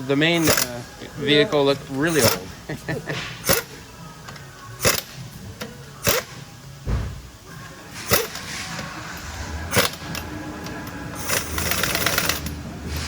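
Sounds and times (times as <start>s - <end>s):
low hum of shop noise: 0.0s - 13.0s.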